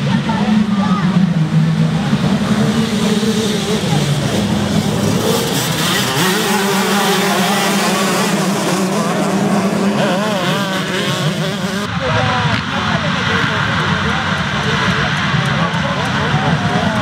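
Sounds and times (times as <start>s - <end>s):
motocross bikes revving past: 0.0s - 17.0s.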